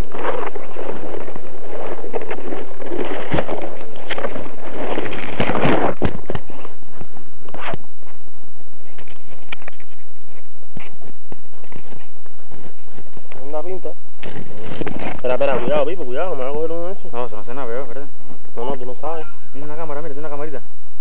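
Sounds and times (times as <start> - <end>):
leaves and branches rustling: 0.0 - 20.6.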